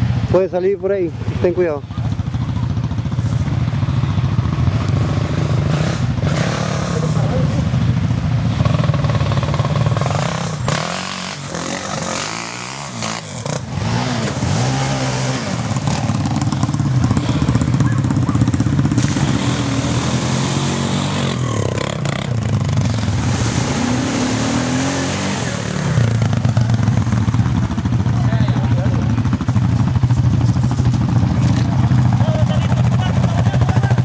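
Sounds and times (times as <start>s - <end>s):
quad engine revving: 4.6s - 34.0s.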